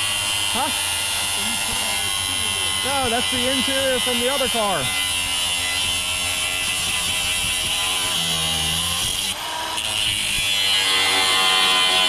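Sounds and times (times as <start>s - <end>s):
motor buzzing drone: 0.0s - 12.0s.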